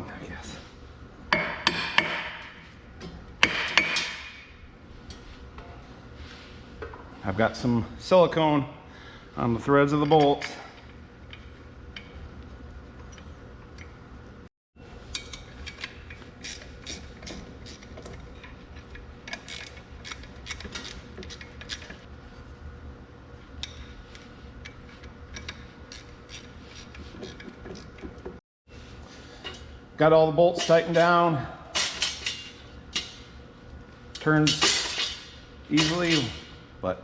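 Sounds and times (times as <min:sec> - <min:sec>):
low shop hum: 0:00.0 - 0:37.0.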